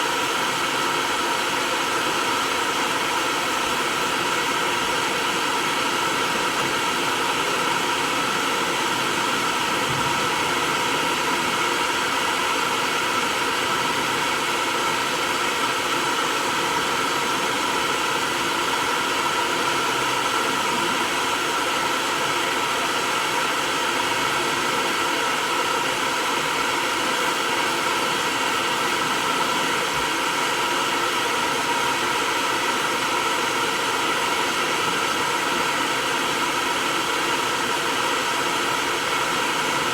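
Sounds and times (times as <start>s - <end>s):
hair dryer whirring: 0.0s - 39.9s.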